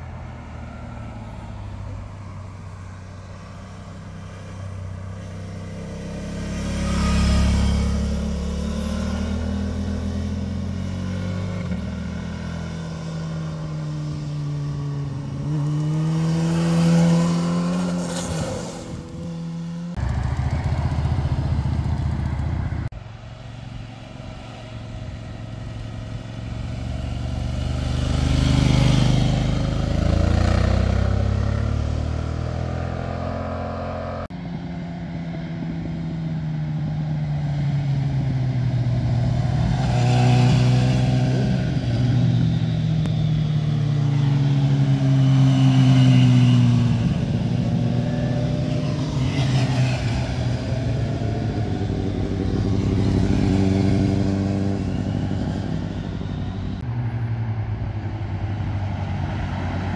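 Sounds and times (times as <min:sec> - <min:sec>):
motorcycles passing by: 0:00.0 - 0:59.9.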